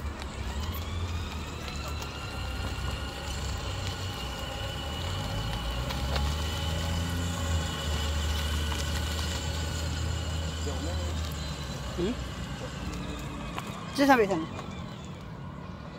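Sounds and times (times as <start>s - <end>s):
electric motors whining: 0.0s - 15.9s.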